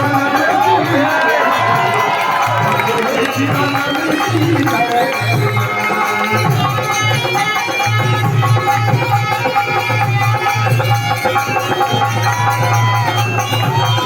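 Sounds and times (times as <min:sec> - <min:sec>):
folk music with drum beat: 0:00.0 - 0:14.0.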